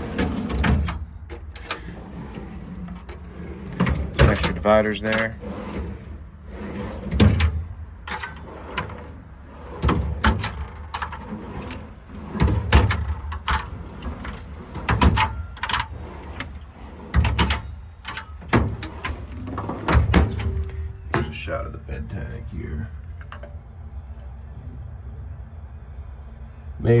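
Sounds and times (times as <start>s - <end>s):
metal doors banging: 0.0s - 23.6s
metal drawers clunking and rattling: 0.0s - 23.6s.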